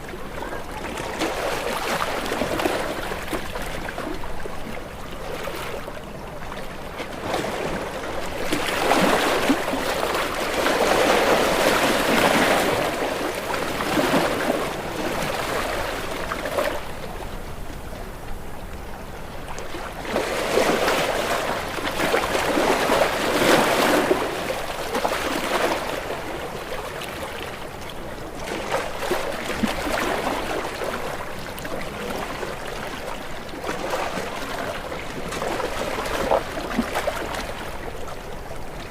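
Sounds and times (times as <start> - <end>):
ocean waves breaking against rocks: 0.0 - 18.8, 19.4 - 38.9.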